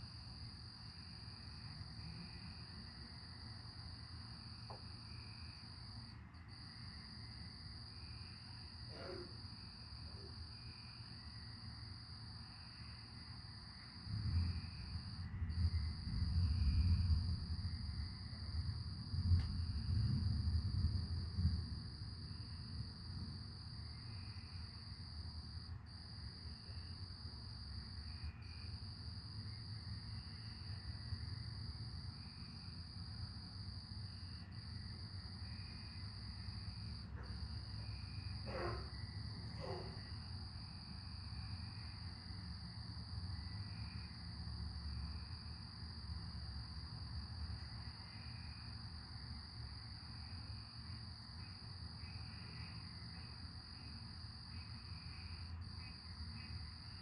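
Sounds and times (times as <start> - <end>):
cricket trill: 0.0 - 57.0
insect chirps: 0.0 - 57.0
continuous low rumble: 11.2 - 57.0.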